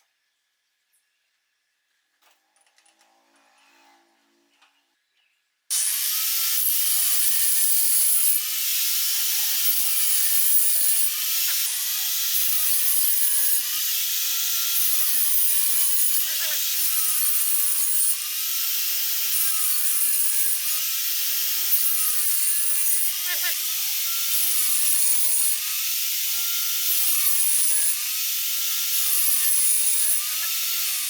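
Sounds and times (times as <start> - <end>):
angle grinder cutting wood: 5.7 - 31.0.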